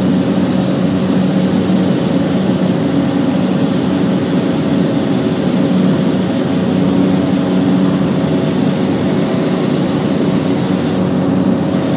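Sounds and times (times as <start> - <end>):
high steady whine: 0.0 - 11.9
propeller plane engine droning: 0.0 - 11.9.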